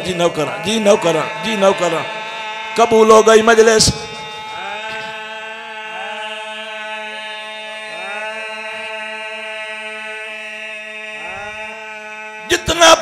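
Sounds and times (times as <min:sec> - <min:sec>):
chant-like drone with sliding notes: 0:00.0 - 0:13.0.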